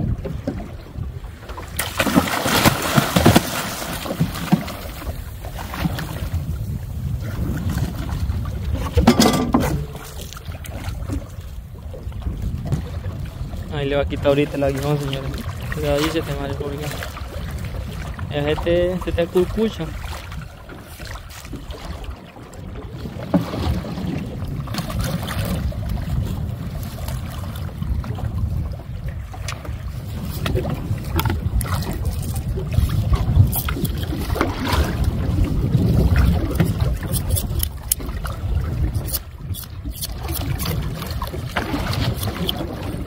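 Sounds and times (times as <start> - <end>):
water sloshing against boat: 0.0 - 43.0
water splashes: 0.0 - 43.0
wind rumbling on microphone: 0.0 - 43.0.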